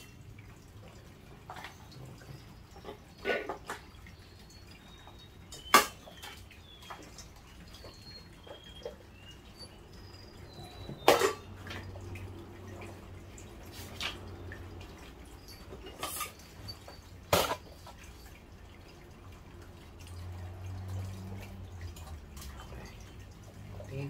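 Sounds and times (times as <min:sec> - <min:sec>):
water drips plinking: 0:00.0 - 0:24.0.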